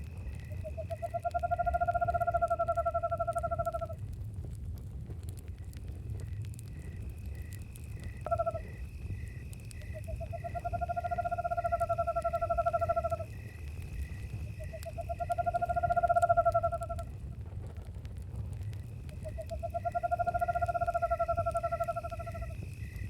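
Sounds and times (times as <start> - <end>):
crickets chirping: 0.0 - 4.2, 5.2 - 23.0
campfire rumbling: 0.0 - 23.0.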